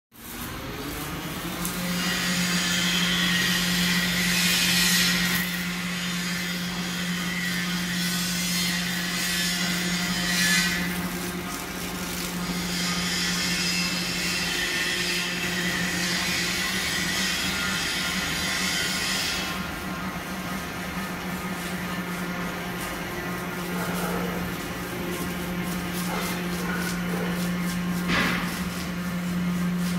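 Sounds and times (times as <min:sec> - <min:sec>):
motor hum: 0:05.4 - 0:29.9.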